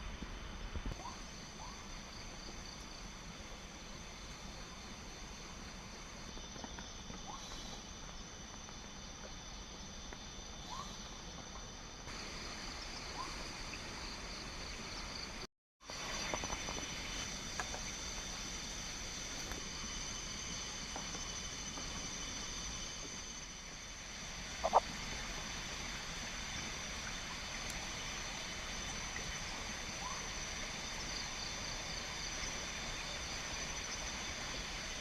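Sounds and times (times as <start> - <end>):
insects trilling: 1.0 - 35.0.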